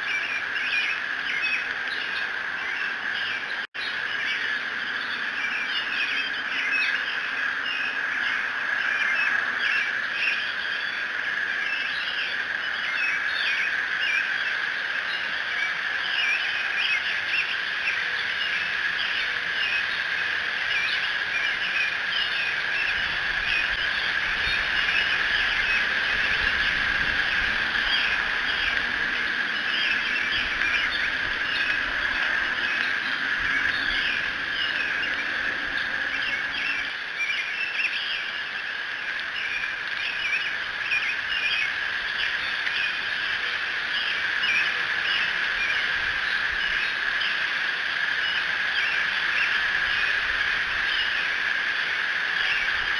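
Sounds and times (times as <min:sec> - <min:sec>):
songbirds chirping and singing: 0:00.0 - 0:52.9
steady high hum: 0:00.0 - 0:52.9.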